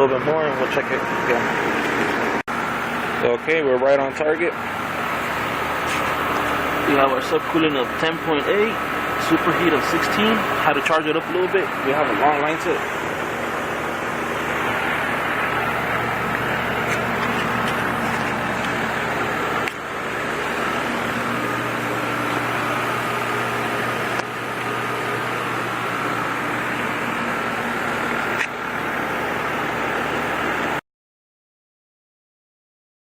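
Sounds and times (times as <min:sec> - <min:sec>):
air conditioner humming: 0:00.0 - 0:30.8.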